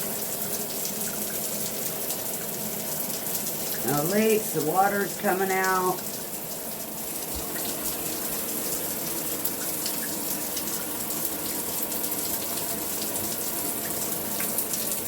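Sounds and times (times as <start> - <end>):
shower spraying into bathtub: 0.0 - 15.0.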